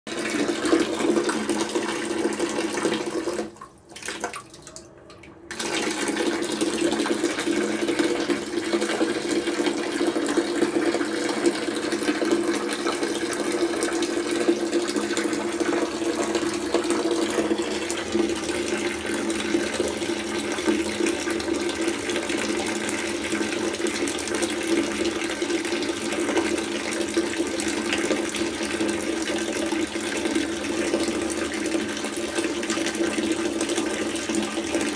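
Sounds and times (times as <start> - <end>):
tap water pouring into bucket: 0.1 - 34.9.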